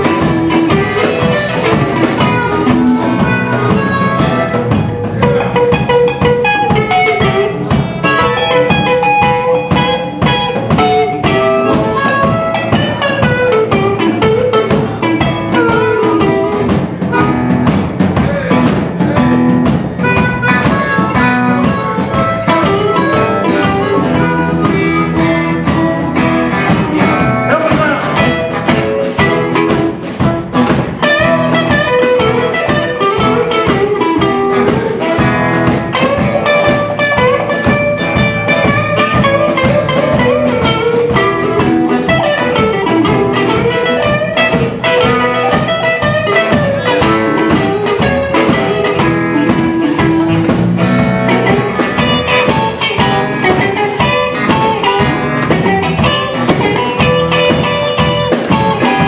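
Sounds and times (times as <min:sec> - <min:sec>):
drum kit: 0:00.0 - 0:59.0
electric guitar lead: 0:00.0 - 0:59.0.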